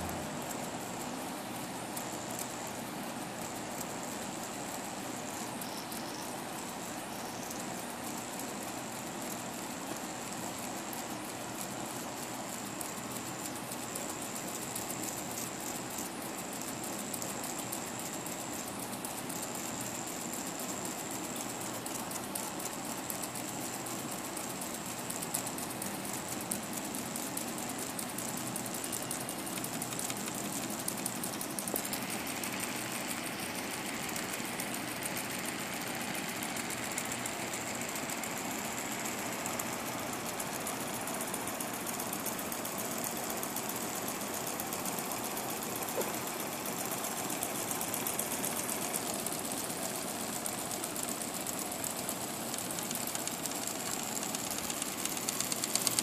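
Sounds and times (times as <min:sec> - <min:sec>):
toy steam engine ticking: 0:00.0 - 0:56.0.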